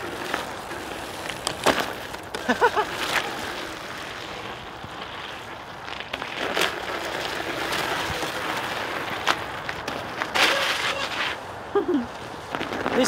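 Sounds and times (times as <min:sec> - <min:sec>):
studded bike tyres grinding on ice: 0:00.0 - 0:13.0.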